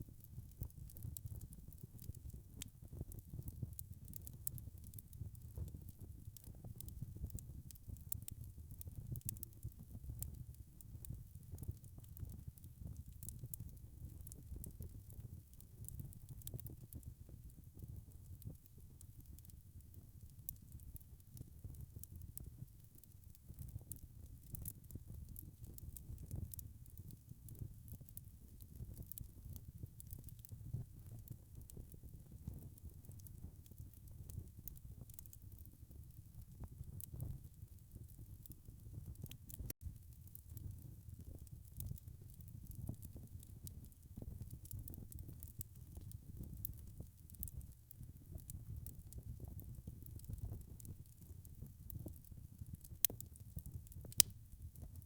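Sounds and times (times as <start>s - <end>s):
log fire crackling and popping: 0.0s - 55.0s.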